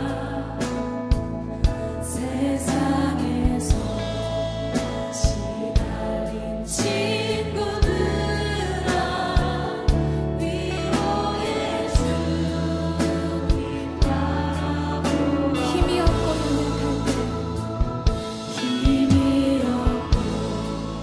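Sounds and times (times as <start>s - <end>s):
singing voices: 0.0s - 0.9s, 2.0s - 21.0s
worship band playing gospel song: 0.0s - 21.0s.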